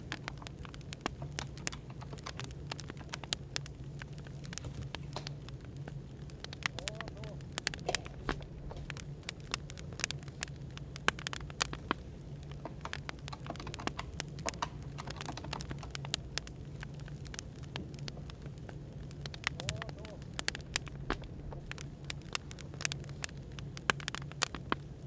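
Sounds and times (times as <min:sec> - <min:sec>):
firewood crackling and popping: 0:00.0 - 0:25.0
low background hum: 0:00.0 - 0:25.0.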